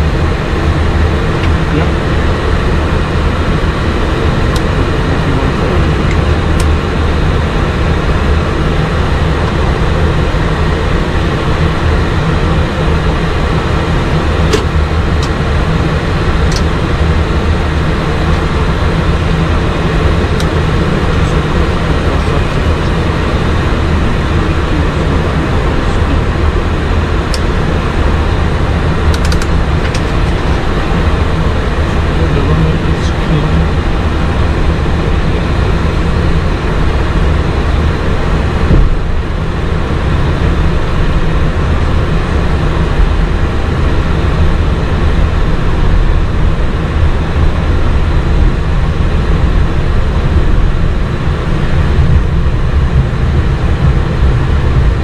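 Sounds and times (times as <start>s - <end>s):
jet engines humming on ground: 0.0s - 55.0s.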